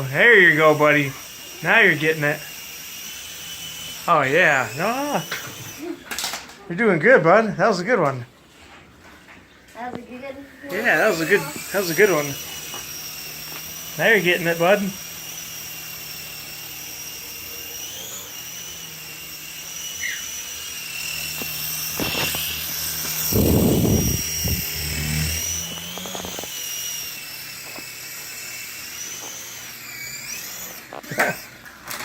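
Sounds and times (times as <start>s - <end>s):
toy helicopter motor whining: 0.0s - 6.6s, 10.6s - 32.0s.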